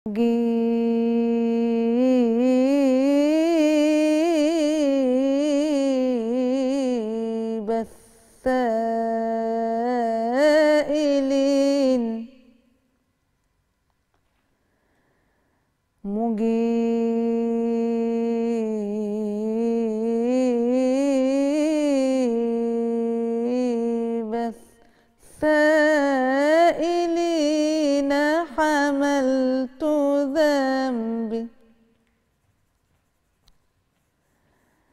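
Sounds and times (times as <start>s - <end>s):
woman singing unaccompanied: 0.0s - 12.6s, 16.0s - 31.8s.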